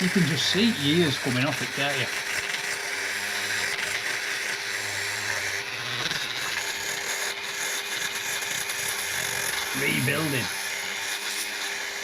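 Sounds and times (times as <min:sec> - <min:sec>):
power tool scrubbing metal: 0:00.0 - 0:12.0.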